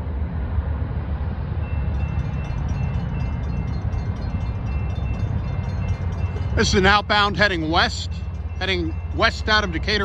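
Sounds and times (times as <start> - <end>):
diesel locomotive engine rumble: 0.0 - 10.0
faint high ringing: 1.6 - 10.0.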